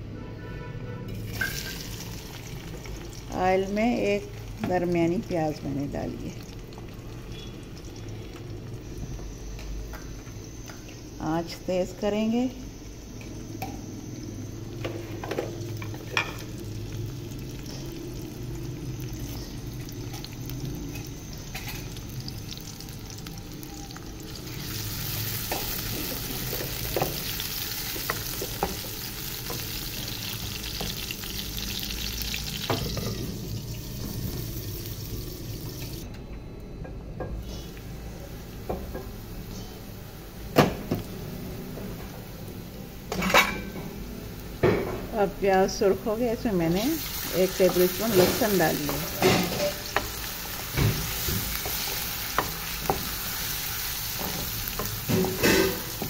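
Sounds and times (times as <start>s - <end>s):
onions sizzling in oil: 1.2s - 36.1s, 37.4s - 56.0s.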